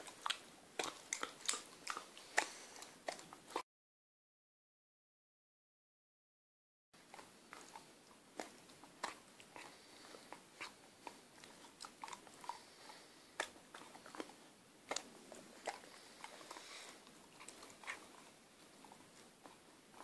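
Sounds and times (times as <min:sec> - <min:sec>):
puppy chewing and smacking: 0:00.0 - 0:03.6, 0:07.0 - 0:20.0.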